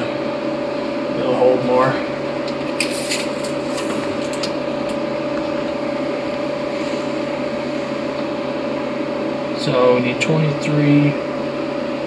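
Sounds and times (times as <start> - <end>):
mechanical hum with whine: 0.0 - 12.0.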